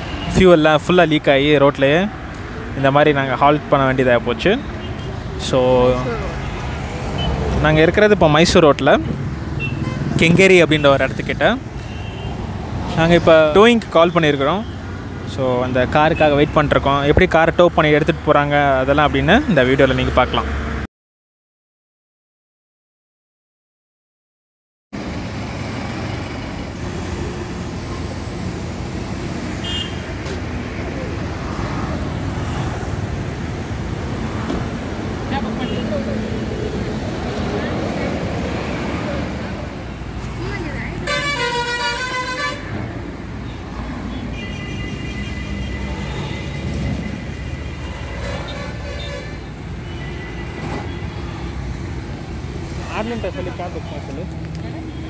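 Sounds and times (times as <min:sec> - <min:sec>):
road traffic rumble: 0:00.0 - 0:20.9, 0:25.0 - 0:55.0.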